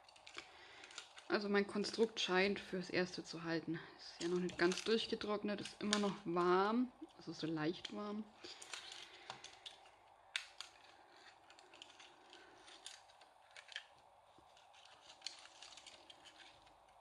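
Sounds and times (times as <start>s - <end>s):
light clicks and rustles: 0.0s - 2.5s, 4.1s - 17.0s.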